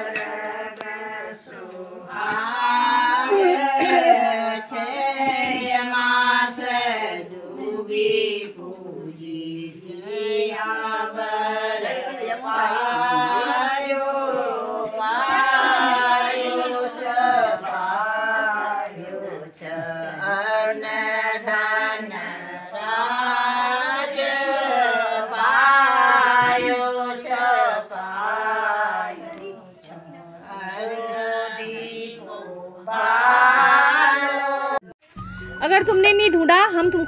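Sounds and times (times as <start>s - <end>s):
women singing in unison: 0.0s - 35.0s.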